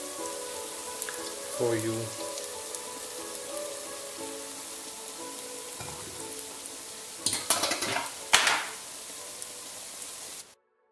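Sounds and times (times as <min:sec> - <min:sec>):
dough sizzling in hot oil: 0:00.0 - 0:10.6.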